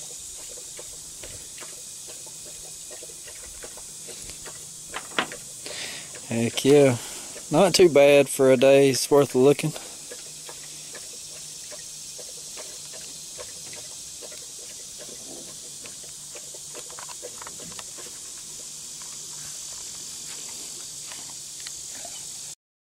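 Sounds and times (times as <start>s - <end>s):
high insect drone: 0.0s - 22.6s.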